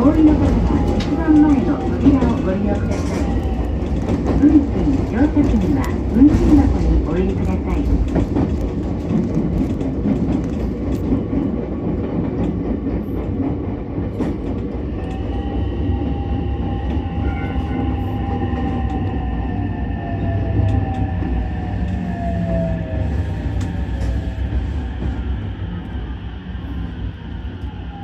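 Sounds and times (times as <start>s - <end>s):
train rumble on rails: 0.0s - 28.0s.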